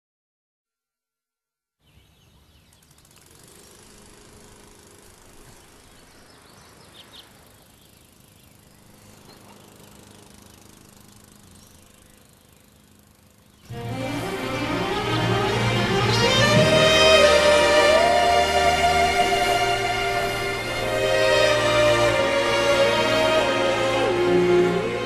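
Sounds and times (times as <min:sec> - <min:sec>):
low hum: 0:03.5 - 0:25.0.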